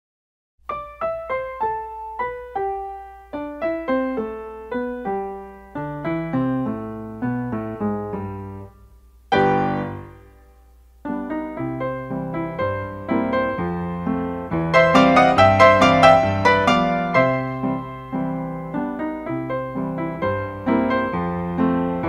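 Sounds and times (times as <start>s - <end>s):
piano music: 0.6s - 22.0s.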